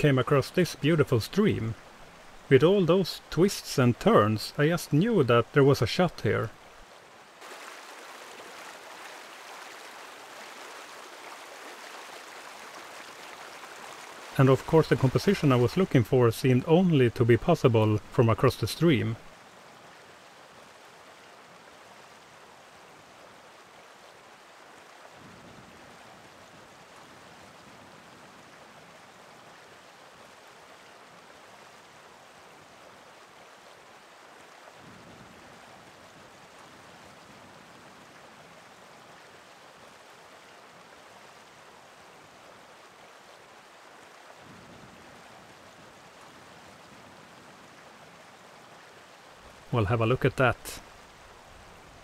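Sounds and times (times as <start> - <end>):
mountain stream rushing: 0.0 - 52.0.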